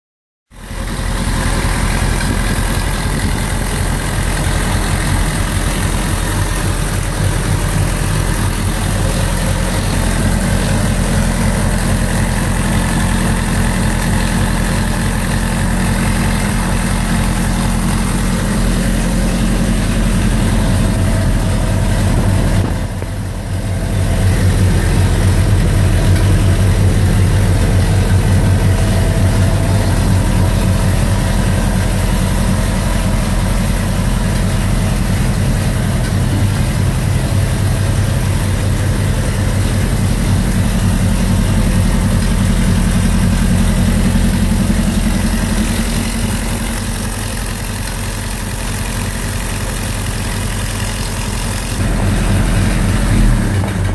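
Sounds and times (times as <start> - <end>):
car engine running: 0.5 - 53.9.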